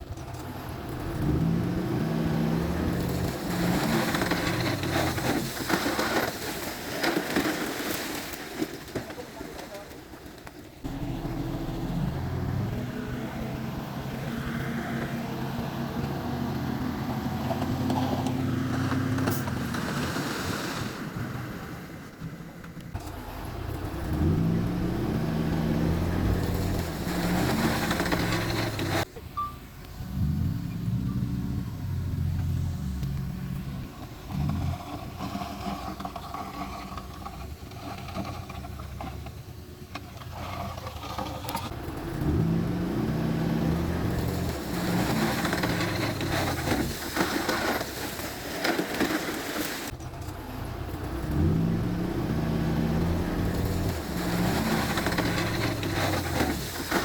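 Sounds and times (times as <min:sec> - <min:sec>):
heavy diesel machinery engines: 0:00.0 - 0:57.0.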